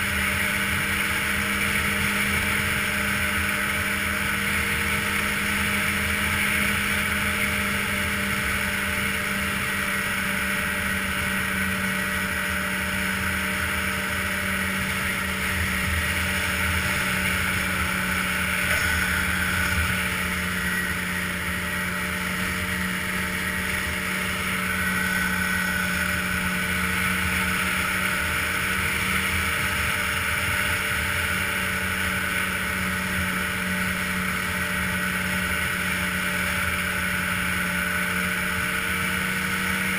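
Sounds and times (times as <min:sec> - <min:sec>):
snowmobile engine droning: 0:00.0 - 0:39.9
track hissing on snow: 0:00.0 - 0:39.9.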